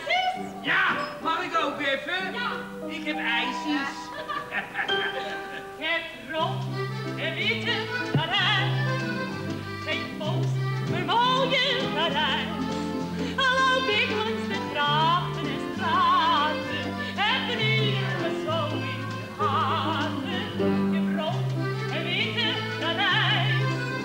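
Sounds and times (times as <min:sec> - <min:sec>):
light band accompaniment: 0:02.2 - 0:24.0
woman singing with vibrato: 0:03.0 - 0:24.0.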